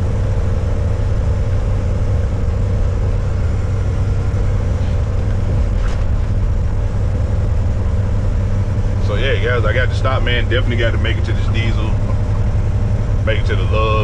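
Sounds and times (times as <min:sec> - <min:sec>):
truck engine and road noise: 0:00.0 - 0:14.0.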